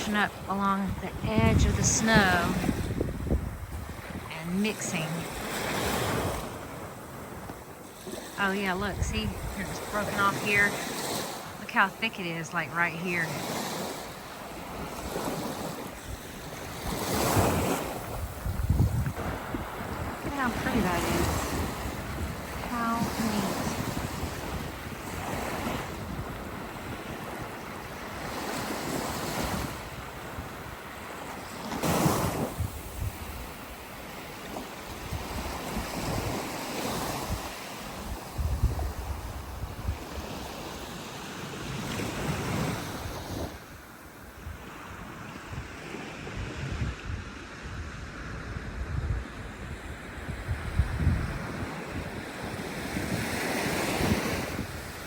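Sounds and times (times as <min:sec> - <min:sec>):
surf washing on beach: 0:00.0 - 0:55.0
wind buffeting microphone: 0:00.0 - 0:55.0.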